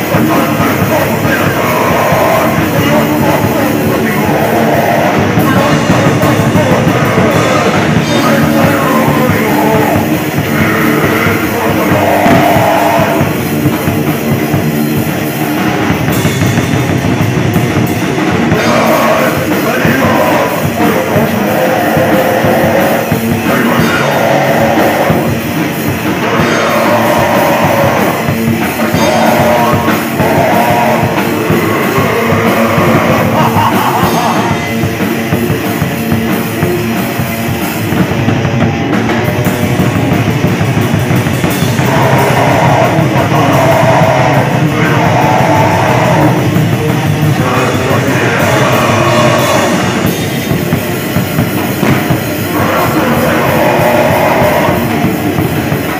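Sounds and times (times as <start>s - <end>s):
person singing: 0.0s - 16.3s, 18.4s - 36.6s, 40.5s - 55.9s
heavy rock band playing: 0.0s - 55.9s.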